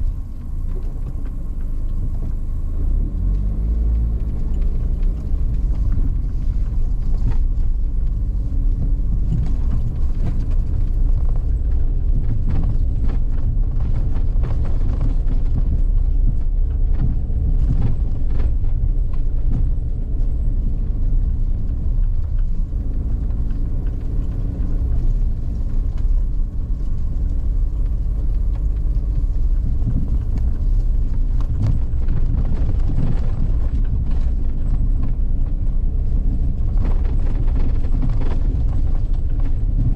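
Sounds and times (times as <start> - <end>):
clicks and knocks over rough road: 0.0 - 39.9
vehicle engine and road rumble: 0.0 - 39.9.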